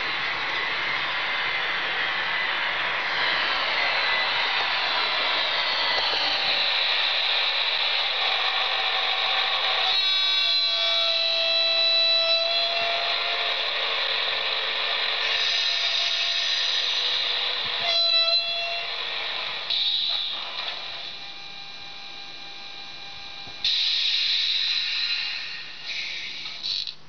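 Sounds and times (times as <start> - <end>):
steady hissing like blowers: 0.0 - 21.4, 23.6 - 27.0
steady whining tones: 0.0 - 26.9.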